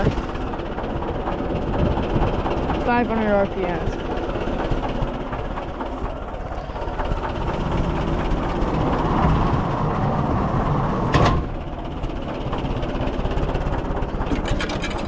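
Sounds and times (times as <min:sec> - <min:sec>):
tractor engine idling slowly: 0:00.0 - 0:15.0.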